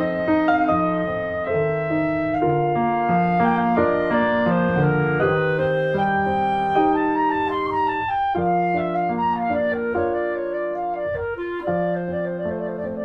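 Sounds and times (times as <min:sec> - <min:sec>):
held woodwind melody: 0:00.0 - 0:13.0
piano: 0:00.0 - 0:13.0.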